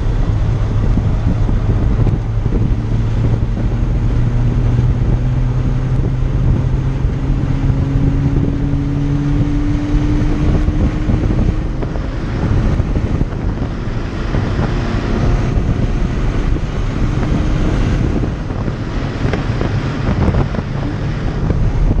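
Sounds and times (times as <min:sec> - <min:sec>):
car engine running at speed: 0:00.0 - 0:22.0
wind and road noise: 0:00.0 - 0:22.0.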